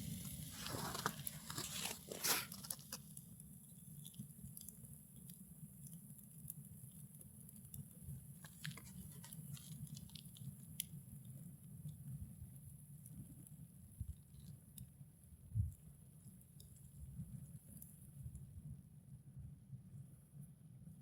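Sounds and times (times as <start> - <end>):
bonfire crackling and popping: 0.0 - 18.6.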